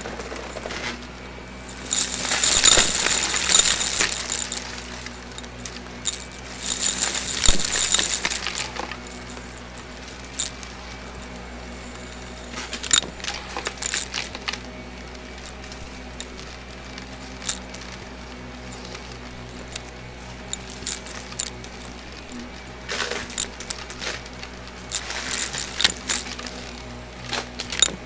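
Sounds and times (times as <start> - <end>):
confetti rattling through vacuum: 0.0 - 27.9
vacuum cleaner humming: 0.0 - 28.0.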